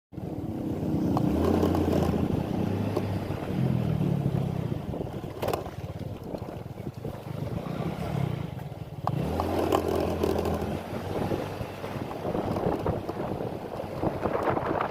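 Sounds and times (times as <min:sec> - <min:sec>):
engine running: 0:00.2 - 0:14.9
wind noise on microphone: 0:00.3 - 0:08.4, 0:09.1 - 0:14.9.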